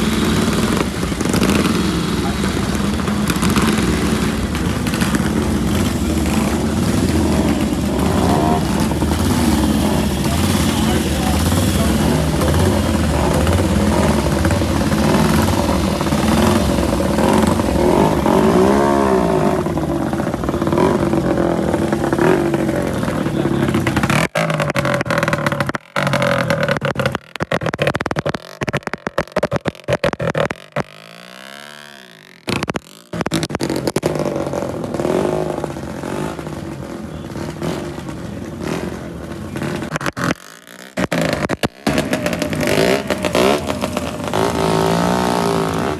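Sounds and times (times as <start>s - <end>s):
motorcycle engines revving: 0.0s - 45.9s.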